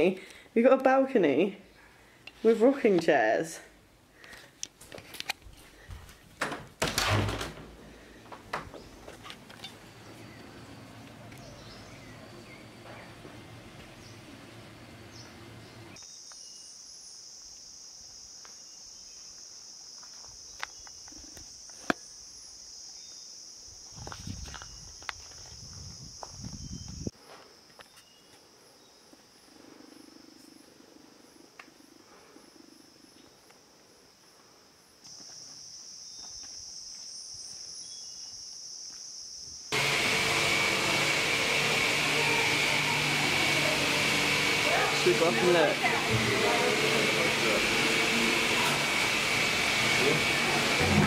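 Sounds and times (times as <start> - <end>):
insects droning: 1.6 - 51.0.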